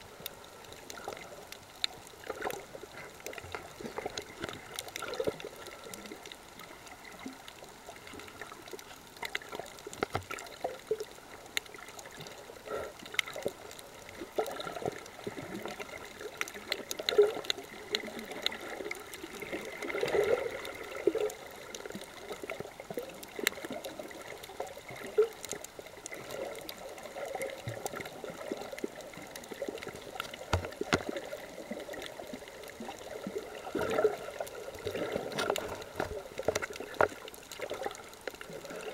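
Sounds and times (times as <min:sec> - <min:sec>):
underwater sloshing and gurgling: 0:00.0 - 0:38.9.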